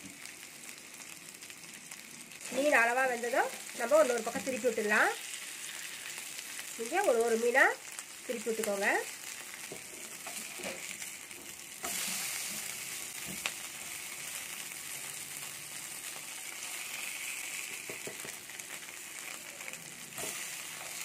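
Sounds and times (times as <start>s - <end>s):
fish sizzling in oil: 0.0s - 21.0s.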